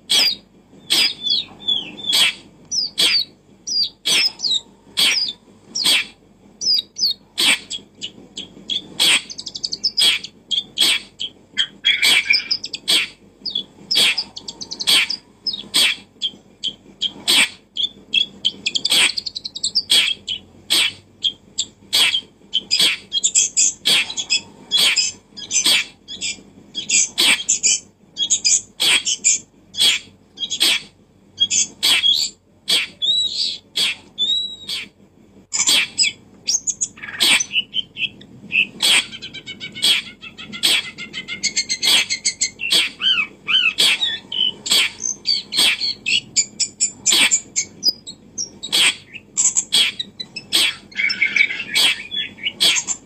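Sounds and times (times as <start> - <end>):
bird chirping and twittering: 0.1 - 53.0.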